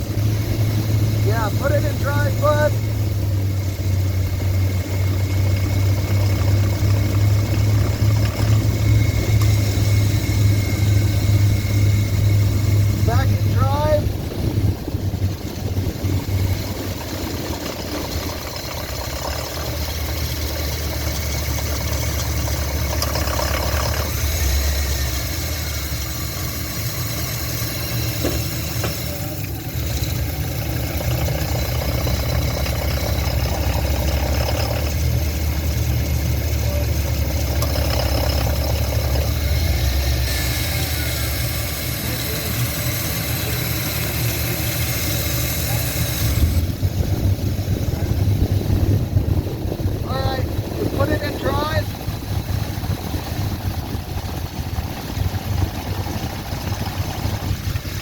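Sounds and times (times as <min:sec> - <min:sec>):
engine idling: 0:00.0 - 0:58.0
engine ticking: 0:00.0 - 0:58.0.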